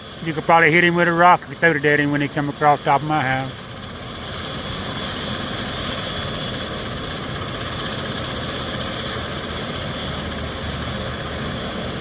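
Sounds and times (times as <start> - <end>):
helicopter turbine whine: 0.0 - 12.0.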